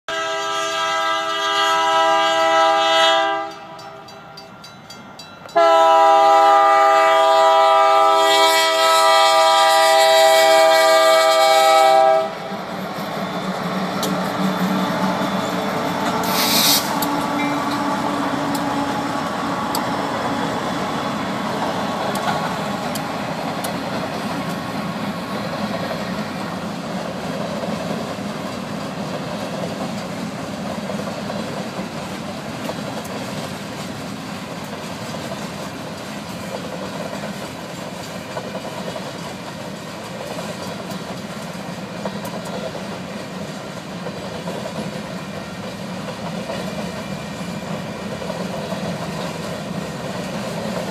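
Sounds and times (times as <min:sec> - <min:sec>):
train rumbling over rails: 0:00.1 - 0:50.9
rail clicks: 0:00.4 - 0:50.9.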